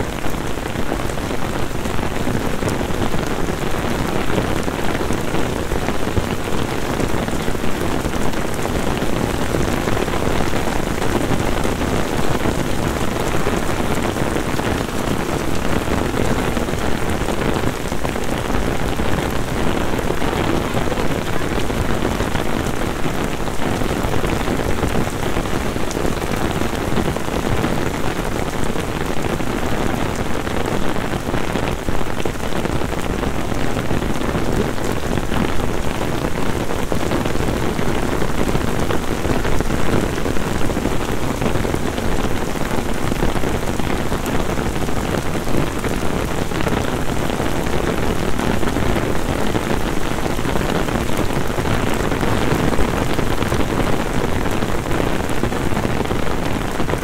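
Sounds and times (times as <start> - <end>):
heavy rain on stone paving: 0.0 - 57.0.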